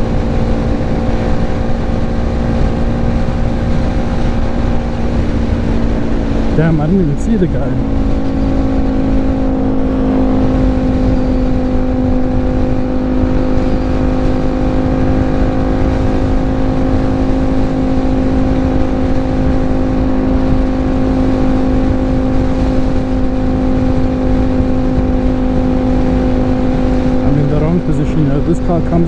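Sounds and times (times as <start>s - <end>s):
motorcycle engine droning: 0.0s - 29.0s
wind noise on microphone: 0.0s - 29.0s.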